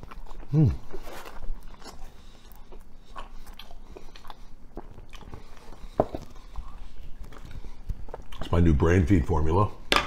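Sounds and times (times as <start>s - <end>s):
person chewing food: 0.0s - 8.5s.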